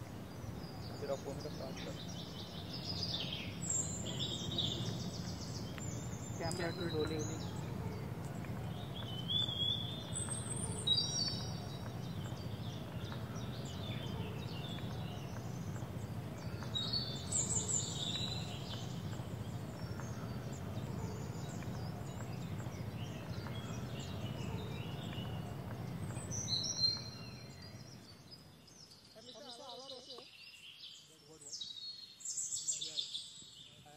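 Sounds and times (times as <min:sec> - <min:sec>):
low background hum: 0:00.0 - 0:30.1
birds whistling: 0:00.0 - 0:33.9.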